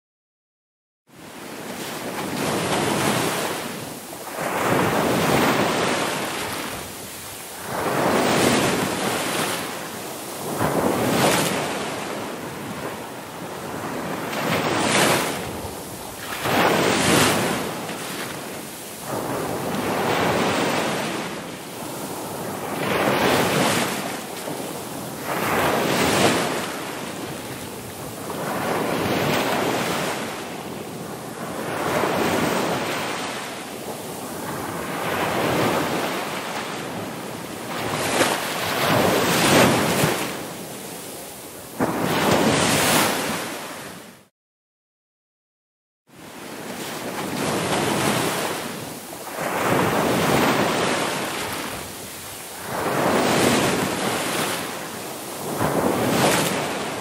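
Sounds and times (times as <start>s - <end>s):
waves breaking and washing in: 1.1s - 44.3s, 46.1s - 57.0s.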